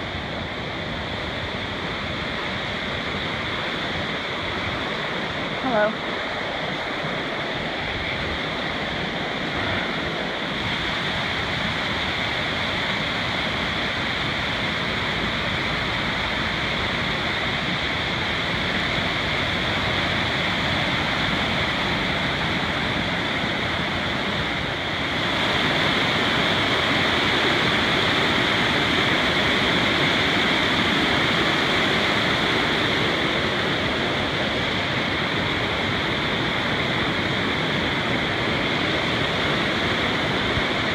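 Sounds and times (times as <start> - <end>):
creek cascading over rocks: 0.0 - 40.9.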